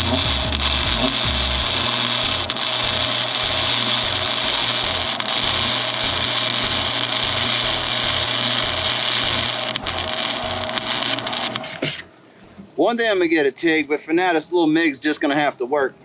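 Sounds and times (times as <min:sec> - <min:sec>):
welding hiss: 0:00.0 - 0:14.0.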